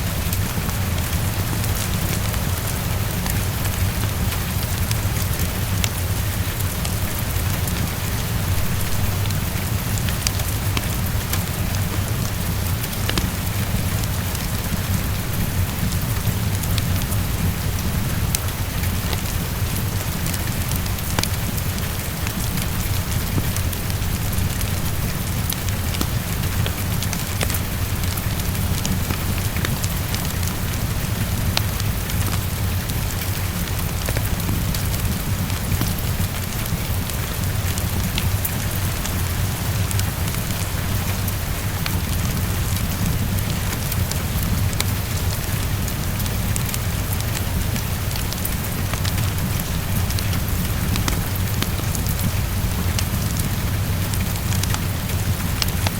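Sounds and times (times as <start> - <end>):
heavy rain against a window: 0.0 - 55.9
wood fire crackling: 0.0 - 55.9.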